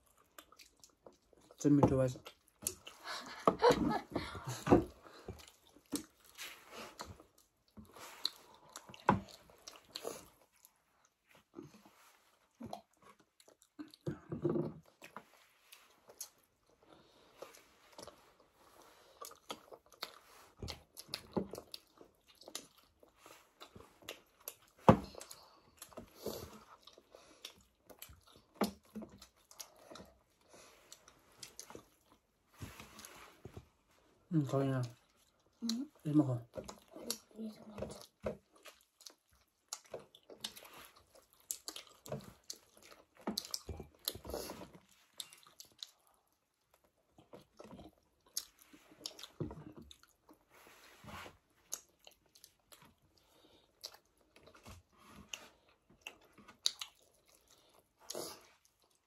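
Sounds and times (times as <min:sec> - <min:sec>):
people chewing food: 0:00.0 - 0:59.0.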